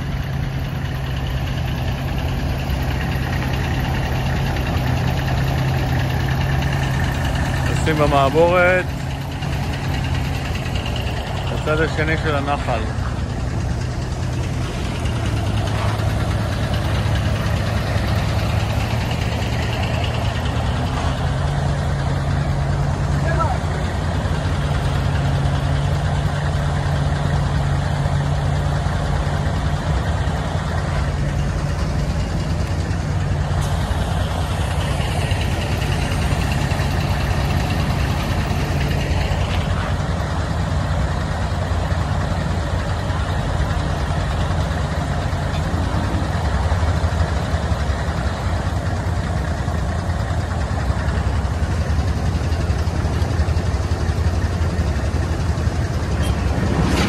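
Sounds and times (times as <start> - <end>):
ferry engine droning: 0.0 - 57.0.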